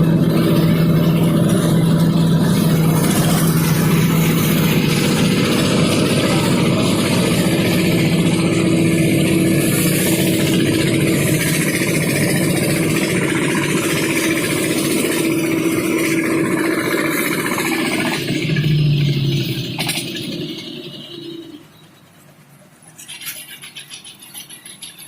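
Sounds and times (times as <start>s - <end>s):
rice thresher engine running: 0.0s - 21.7s, 22.9s - 25.0s.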